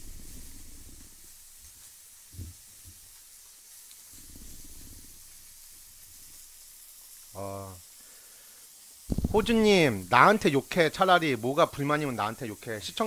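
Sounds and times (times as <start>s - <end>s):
meat sizzling on a grill pan: 0.0s - 13.0s.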